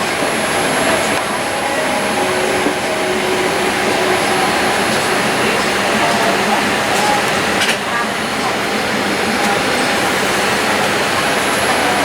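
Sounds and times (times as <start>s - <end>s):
air-conditioning rushing: 0.0s - 12.0s
thin high whine: 0.0s - 12.0s.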